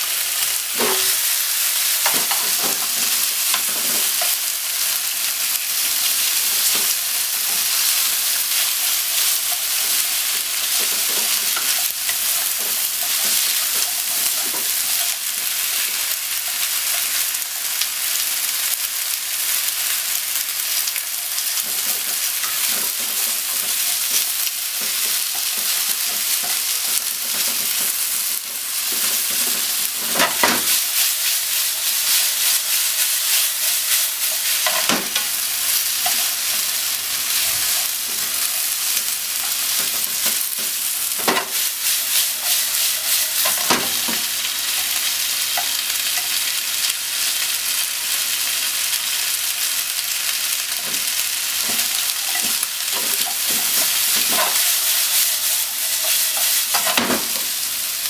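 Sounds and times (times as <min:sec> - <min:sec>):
meat and onion sizzling in pan: 0:00.0 - 0:58.0
chopsticks tapping and scraping pan: 0:00.7 - 0:05.0, 0:05.8 - 0:16.1, 0:20.9 - 0:46.4, 0:50.8 - 0:57.6.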